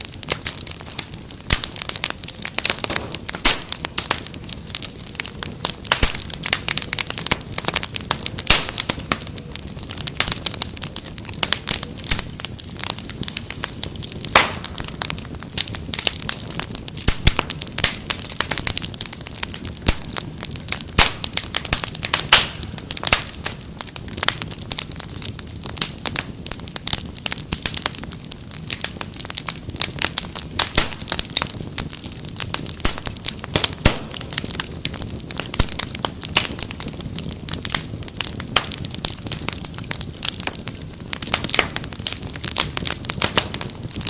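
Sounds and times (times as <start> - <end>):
low rush of flame: 0.0 - 44.0
wood fire snapping and popping: 0.0 - 44.0.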